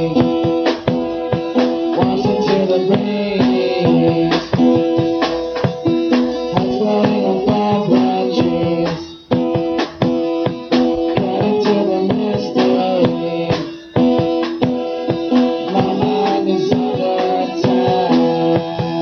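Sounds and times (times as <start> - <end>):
drum kit beat: 0.0 - 19.0
guitar chords: 0.0 - 19.0.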